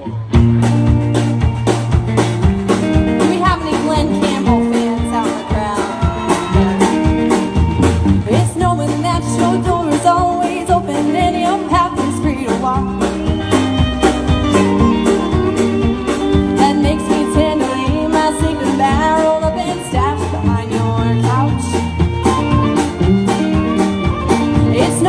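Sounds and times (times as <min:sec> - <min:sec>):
drums steady beat: 0:00.0 - 0:25.0
live country band playing: 0:00.0 - 0:25.0.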